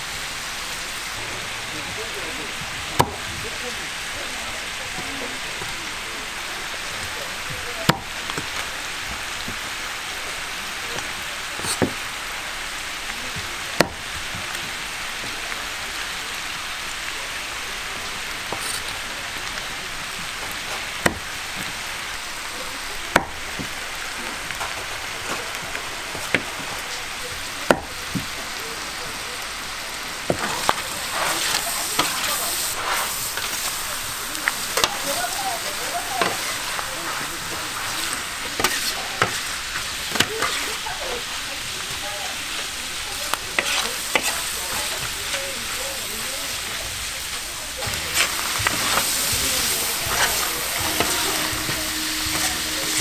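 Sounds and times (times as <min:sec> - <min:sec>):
meat sizzling on a griddle: 0:00.0 - 0:53.0.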